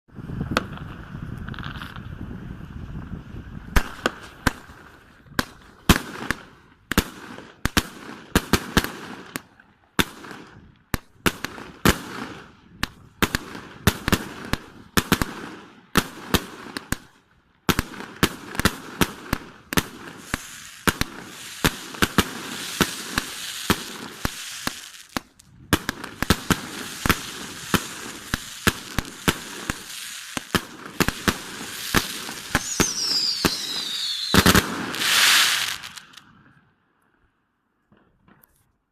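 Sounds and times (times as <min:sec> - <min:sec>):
fireworks aerial bursts: 0:00.1 - 0:36.8.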